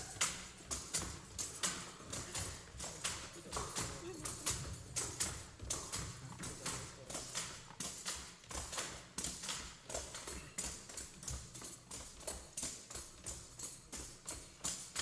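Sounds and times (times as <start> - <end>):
shoes stamping on wooden stage: 0.0 - 15.0.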